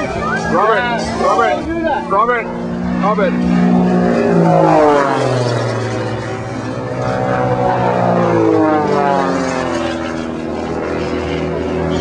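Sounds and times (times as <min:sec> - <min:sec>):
propeller airplane passing overhead: 0:00.0 - 0:12.0.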